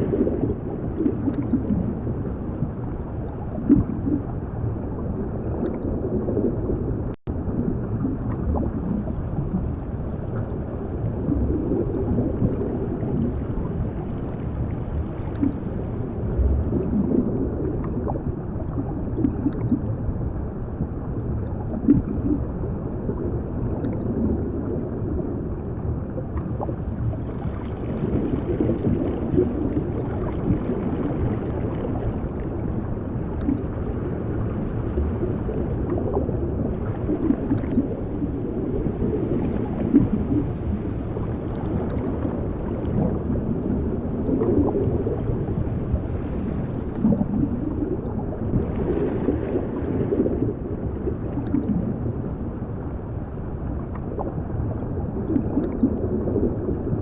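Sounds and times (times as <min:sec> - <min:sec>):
muffled underwater bubbling: 0:00.0 - 0:57.0.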